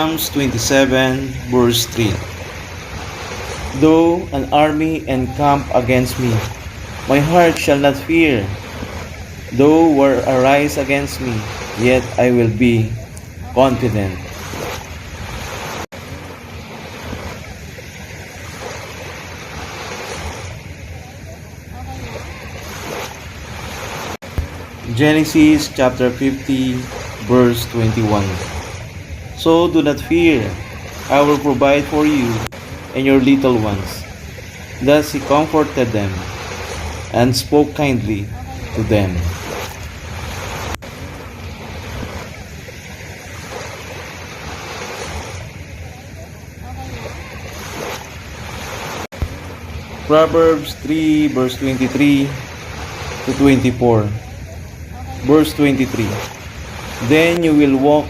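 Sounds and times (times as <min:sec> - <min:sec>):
sea waves washing onto beach: 0:00.0 - 0:58.0.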